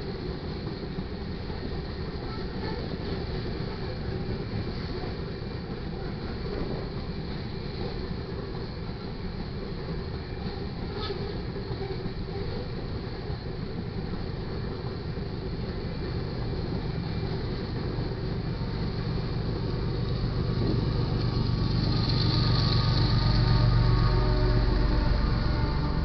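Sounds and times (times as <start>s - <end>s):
diesel locomotive engine hum: 0.0s - 26.0s
train wheels rumbling on rails: 0.0s - 26.0s.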